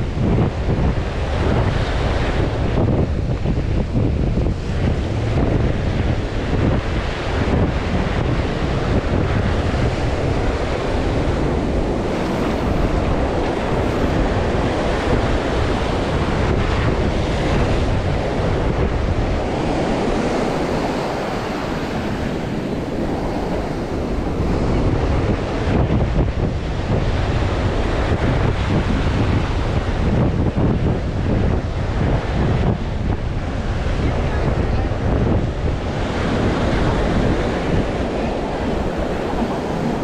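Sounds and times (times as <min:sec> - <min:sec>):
ocean surf washing onto beach: 0:00.0 - 0:40.0
wind buffeting microphone: 0:00.0 - 0:40.0.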